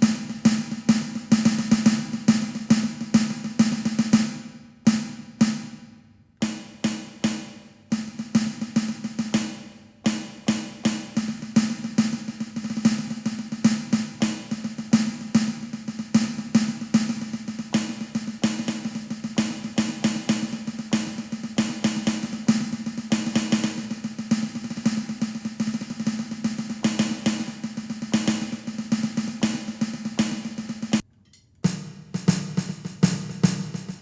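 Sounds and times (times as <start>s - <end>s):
electronic snare drum hits: 0.0s - 31.0s, 31.7s - 34.0s.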